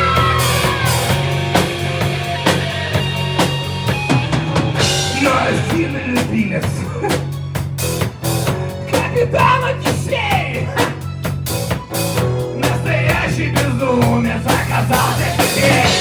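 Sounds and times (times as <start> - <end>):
drum kit beat: 0.0 - 16.0
rock band playing: 0.0 - 16.0.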